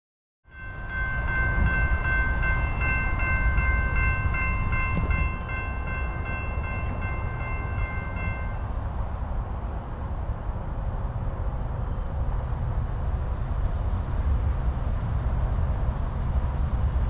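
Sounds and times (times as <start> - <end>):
low train rumble: 0.5 - 17.0.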